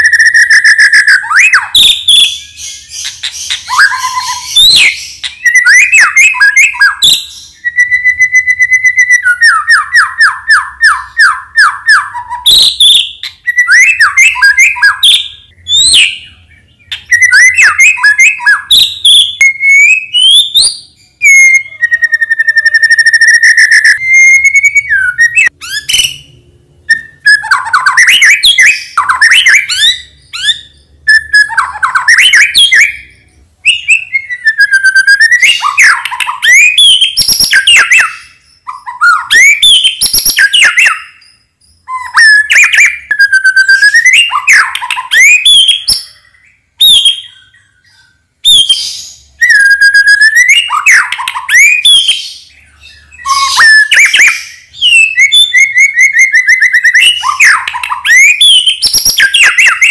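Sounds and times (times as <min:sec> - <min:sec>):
songbird singing varied phrases: 0:00.0 - 0:59.9.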